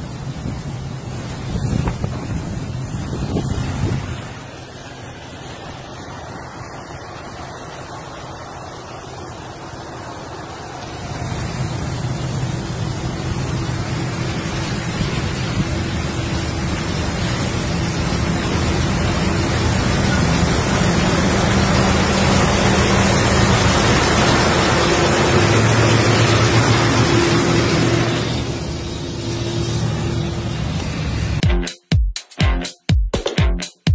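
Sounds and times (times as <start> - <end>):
car road and wind noise: 0.0 - 31.4
truck diesel engines droning: 0.0 - 31.4.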